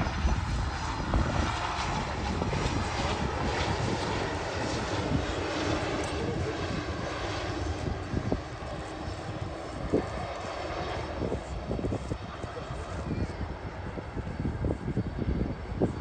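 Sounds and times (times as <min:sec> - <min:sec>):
airliner engine hiss and rumble: 0:00.0 - 0:16.0
wind buffeting microphone: 0:00.0 - 0:16.0.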